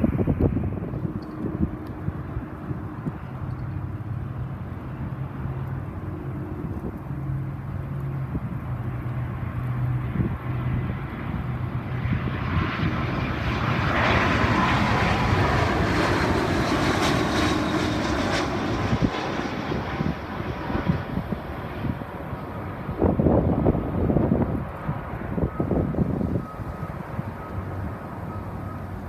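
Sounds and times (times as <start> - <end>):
wind buffeting microphone: 0.0 - 4.6, 5.4 - 29.0
jet engines roaring: 0.0 - 29.0.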